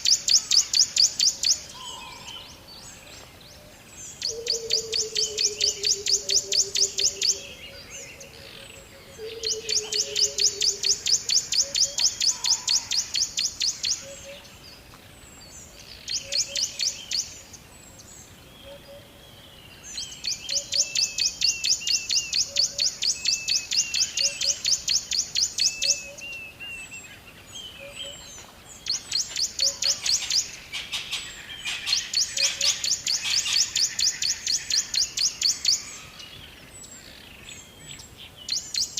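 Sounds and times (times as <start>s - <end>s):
soft low bird calls: 0.0s - 38.9s.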